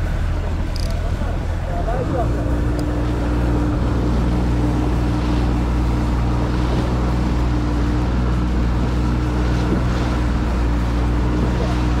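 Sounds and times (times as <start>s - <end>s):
boat engine running: 0.0s - 12.0s
water washing along hull: 0.0s - 12.0s.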